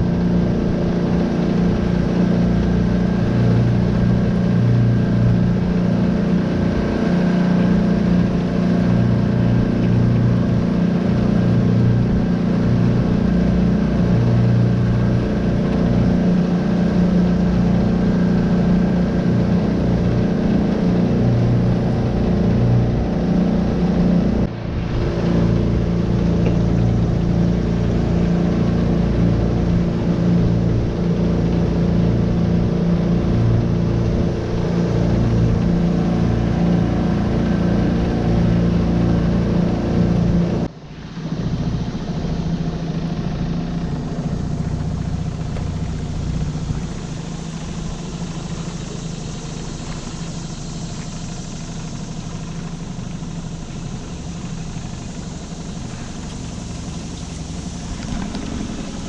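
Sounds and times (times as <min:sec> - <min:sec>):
outboard motor running: 0:00.0 - 0:59.0
water and hull noise: 0:00.0 - 0:59.0.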